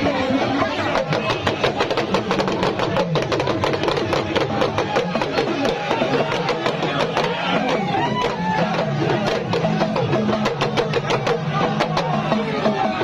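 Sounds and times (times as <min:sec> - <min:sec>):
crowd clamour: 0:00.0 - 0:13.0
drumming: 0:00.0 - 0:13.0.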